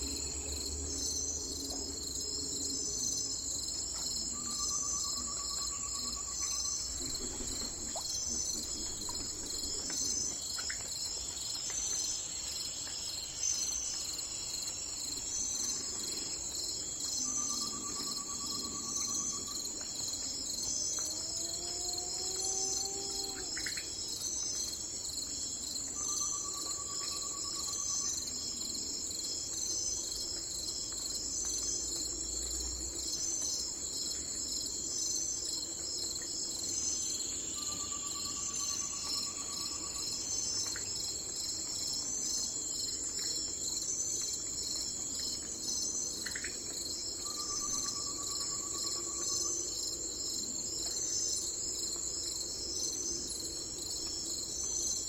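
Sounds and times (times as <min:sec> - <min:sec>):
crickets and insects chorus: 0:00.0 - 0:55.0.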